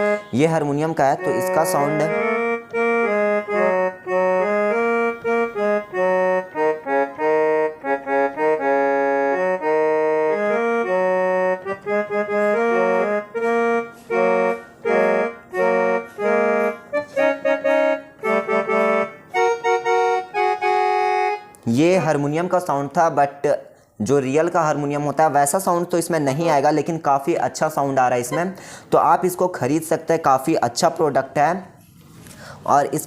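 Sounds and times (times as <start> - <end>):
electronic keyboard harmonium melody: 0.0 - 31.2.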